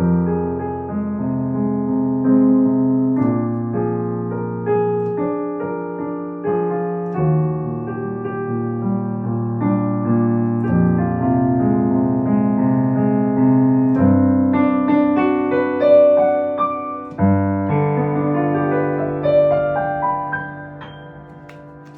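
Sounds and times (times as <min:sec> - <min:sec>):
slow piano chords: 0:00.0 - 0:21.9.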